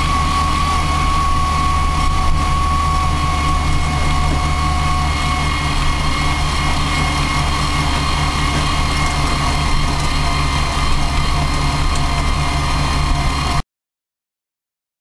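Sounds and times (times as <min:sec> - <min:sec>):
drivetrain whine: 0:00.0 - 0:13.6
engine drone inside cab: 0:00.0 - 0:13.6.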